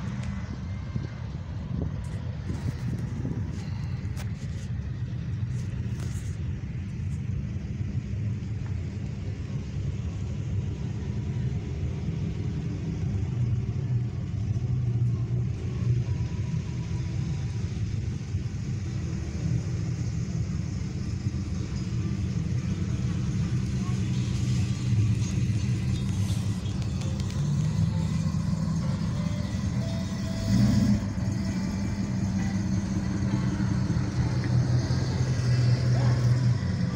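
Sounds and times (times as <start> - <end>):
cars driving past: 0.0 - 6.8, 10.1 - 36.9.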